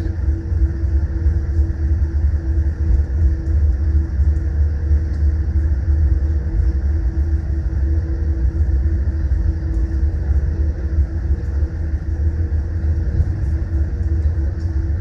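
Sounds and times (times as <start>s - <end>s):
airplane cabin rumble: 0.0s - 15.0s
constant hum: 0.0s - 15.0s.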